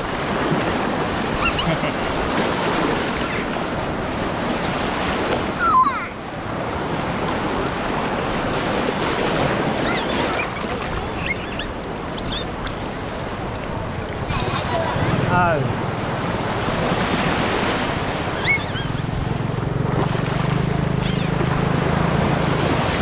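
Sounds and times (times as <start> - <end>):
waves breaking on beach: 0.0 - 23.0.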